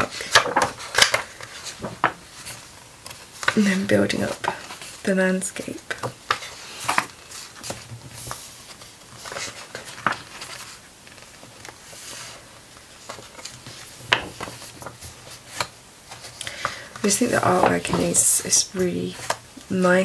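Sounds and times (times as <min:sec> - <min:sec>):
book pages rustling: 0:00.0 - 0:20.0.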